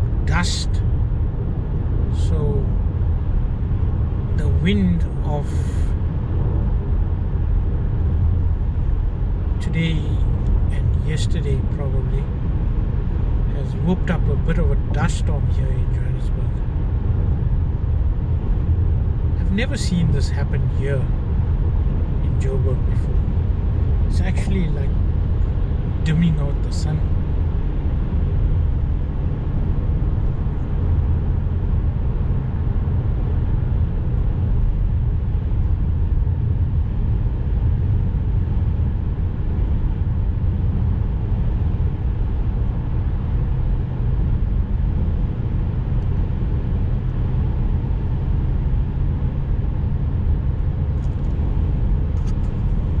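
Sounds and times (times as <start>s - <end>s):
car driving on highway: 0.0s - 53.0s.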